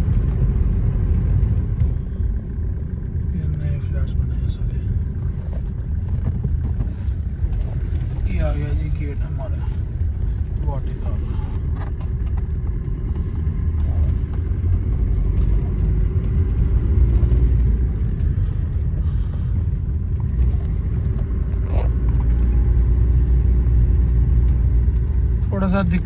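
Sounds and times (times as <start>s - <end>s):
car engine and tyre noise: 0.0s - 26.0s.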